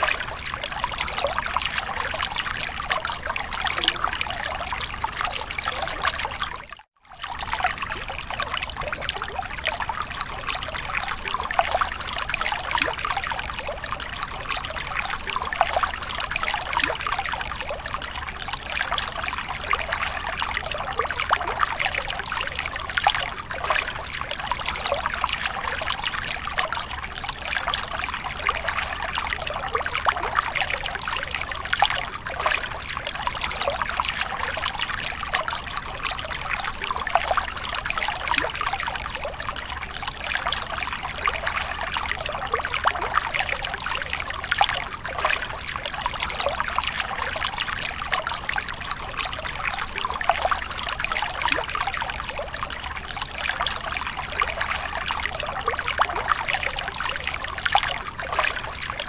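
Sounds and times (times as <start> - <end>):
water trickling into pool: 0.0 - 59.0.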